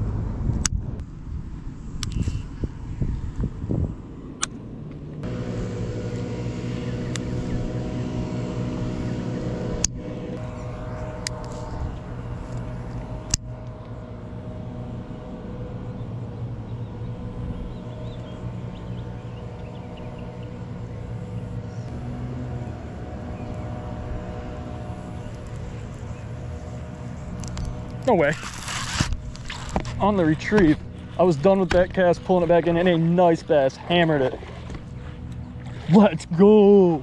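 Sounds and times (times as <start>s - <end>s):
motor humming: 1.8s - 37.0s.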